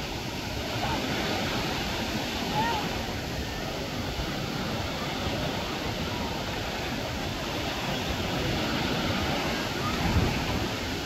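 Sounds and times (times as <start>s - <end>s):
waves breaking: 0.0s - 11.0s.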